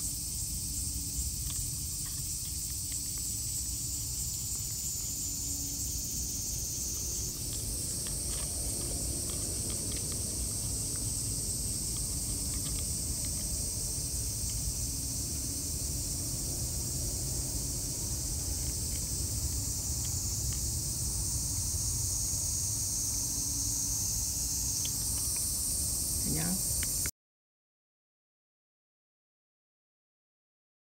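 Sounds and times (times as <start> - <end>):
insects chirring: 0.0 - 27.1
cat crunching dry kibble: 0.1 - 22.5, 23.1 - 27.1.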